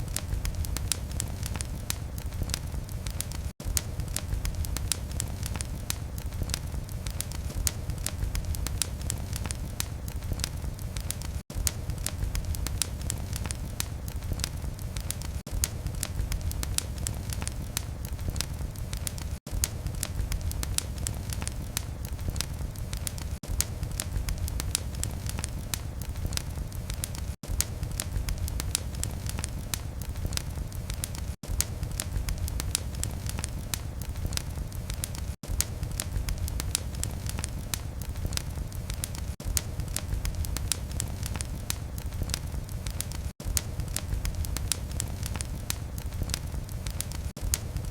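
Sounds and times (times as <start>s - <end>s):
fireplace fire crackling: 0.0s - 47.9s.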